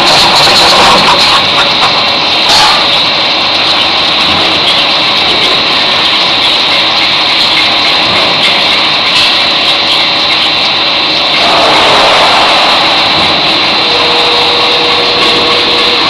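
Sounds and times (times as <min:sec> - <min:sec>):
drilling machine whining: 0:00.0 - 0:16.0.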